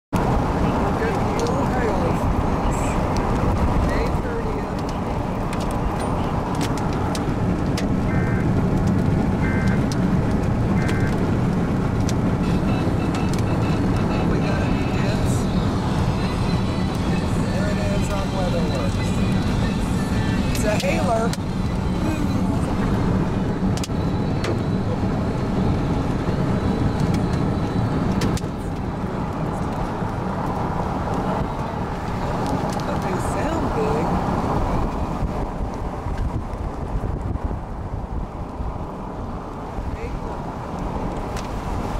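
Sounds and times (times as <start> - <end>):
car road and engine noise: 0.1 - 41.9.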